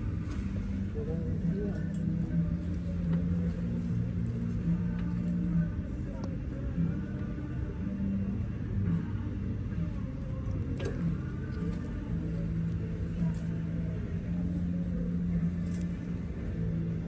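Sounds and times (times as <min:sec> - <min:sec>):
machinery hum and rumble: 0:00.0 - 0:17.0.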